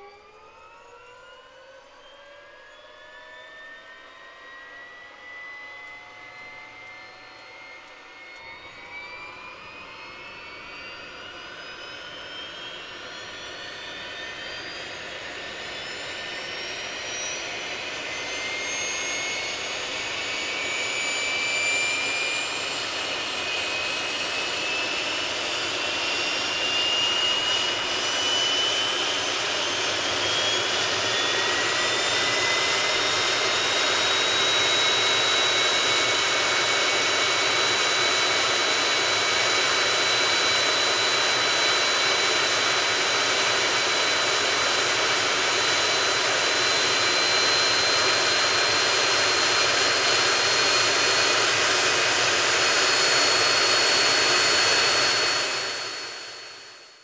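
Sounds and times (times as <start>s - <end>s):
jet engine whine spooling up: 0.0s - 57.0s.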